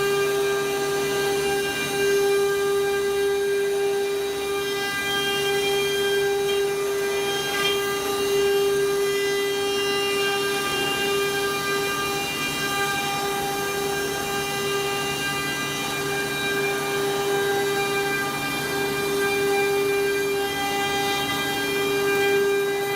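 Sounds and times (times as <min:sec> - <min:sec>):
hiss of wood cutting: 0:00.0 - 0:22.9
router spindle whine: 0:00.0 - 0:22.9.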